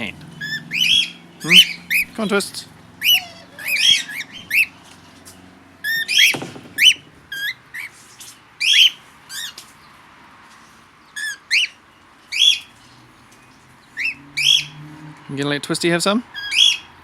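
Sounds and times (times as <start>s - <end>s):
parrots chirping: 0.0s - 10.0s, 11.0s - 15.2s, 16.3s - 17.0s.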